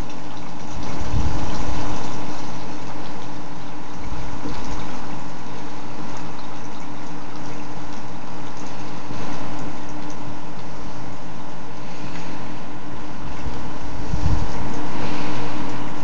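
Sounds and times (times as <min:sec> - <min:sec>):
steady hum: 0:00.0 - 0:16.0
water rushing through siphon: 0:00.0 - 0:16.0.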